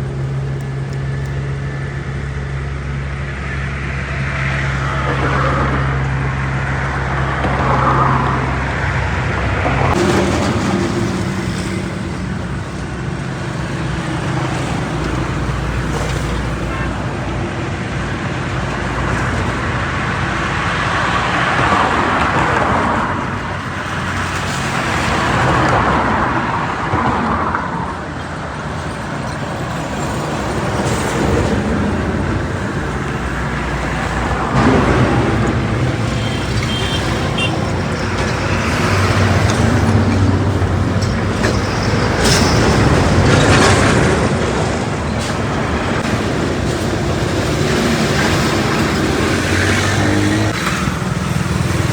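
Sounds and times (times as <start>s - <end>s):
heavy engines humming: 0.0s - 51.9s
rush of tyres: 0.0s - 51.9s
vehicles passing on highway: 0.0s - 51.9s.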